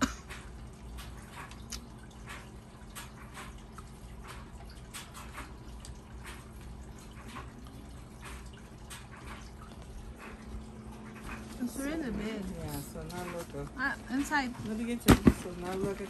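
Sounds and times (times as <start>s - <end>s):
aquarium filter humming: 0.0s - 16.0s
water dripping and trickling: 0.0s - 16.0s.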